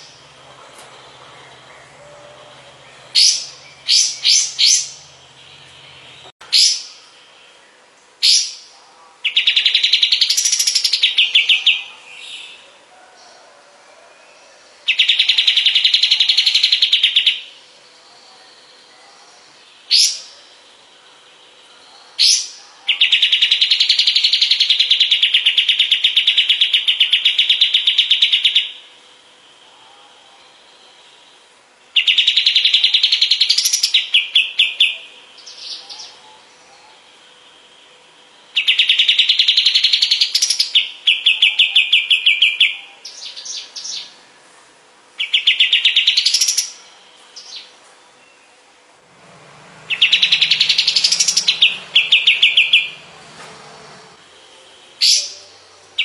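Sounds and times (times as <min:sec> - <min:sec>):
bird singing trills: 0:00.0 - 0:12.8, 0:14.2 - 0:44.4, 0:45.2 - 0:48.7, 0:49.3 - 0:56.0.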